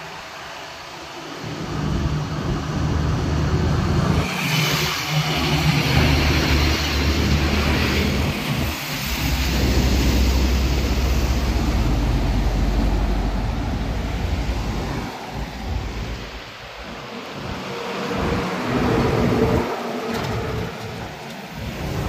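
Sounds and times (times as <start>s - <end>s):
diesel trucks driving past: 0.0s - 22.0s.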